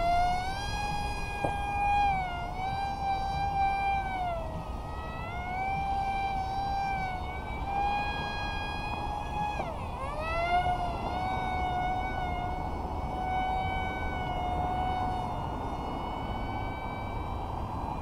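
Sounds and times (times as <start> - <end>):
model plane propeller whining: 0.0 - 18.0.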